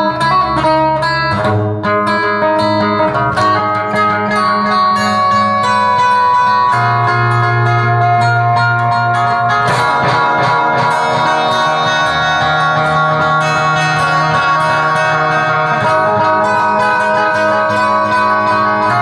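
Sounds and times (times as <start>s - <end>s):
plucked guitar notes: 0.0s - 19.0s.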